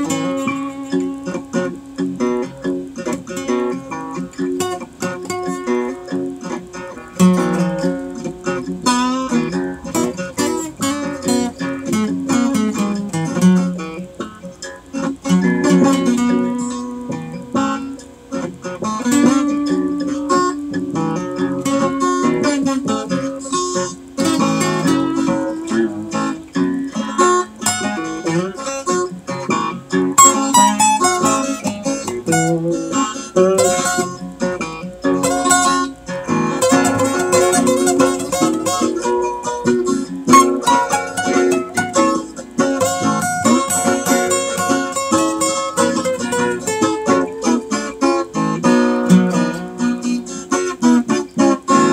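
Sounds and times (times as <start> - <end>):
acoustic guitar instrumental: 0.0 - 51.9.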